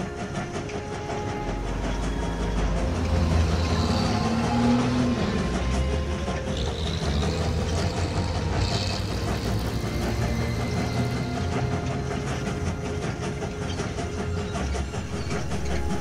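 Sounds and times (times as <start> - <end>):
rail noise: 0.0 - 16.0
train engine rumble: 0.0 - 16.0.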